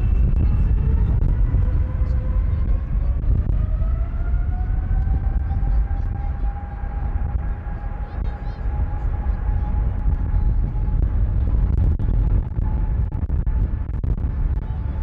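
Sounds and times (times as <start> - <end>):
jet engines rumbling and whining: 0.0 - 15.0.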